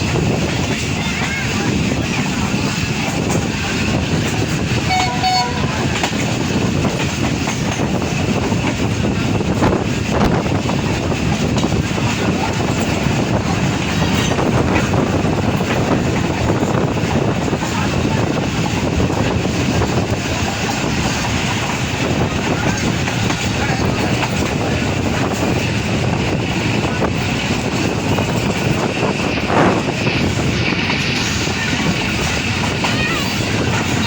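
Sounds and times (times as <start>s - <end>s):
train wheels clickety-clack: 0.0s - 34.0s.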